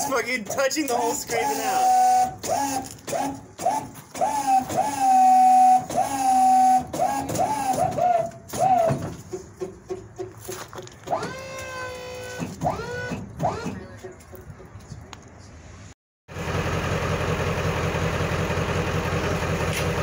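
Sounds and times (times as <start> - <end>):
tow truck boom motor whining: 0.0 - 14.0, 16.3 - 20.0.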